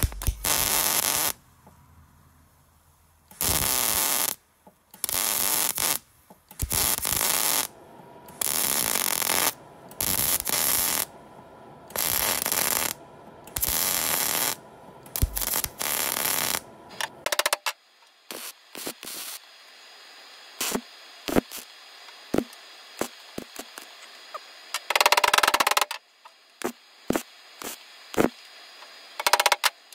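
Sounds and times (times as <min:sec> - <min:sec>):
arc welding crackle and hiss: 0:00.0 - 0:29.9.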